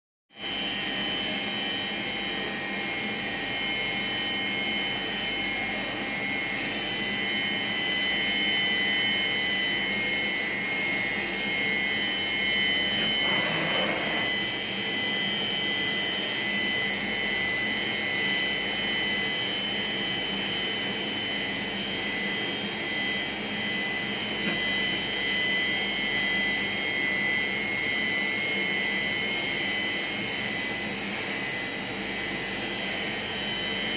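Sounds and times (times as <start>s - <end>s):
machine high whine: 0.4s - 33.9s.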